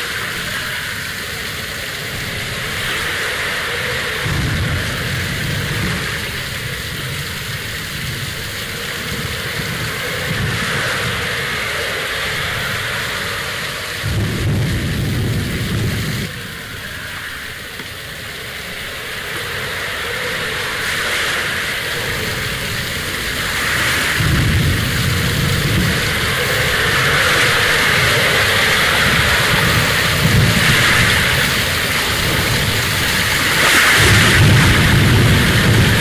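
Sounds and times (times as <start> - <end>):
heavy rain: 0.0 - 36.0
rolling thunder: 0.0 - 36.0.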